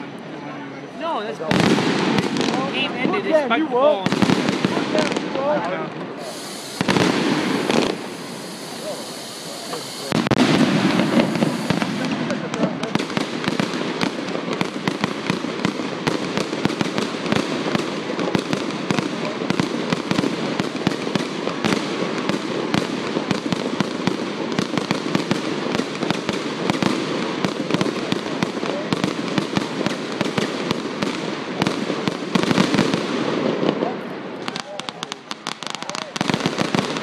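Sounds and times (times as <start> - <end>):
fireworks bangs and pops: 1.3 - 37.0.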